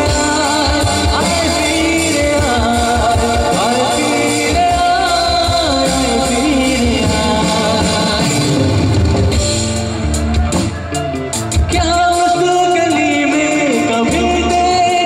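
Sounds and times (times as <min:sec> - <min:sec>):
man singing into a microphone: 0:00.0 - 0:09.0, 0:11.5 - 0:15.0
band accompaniment: 0:00.0 - 0:15.0.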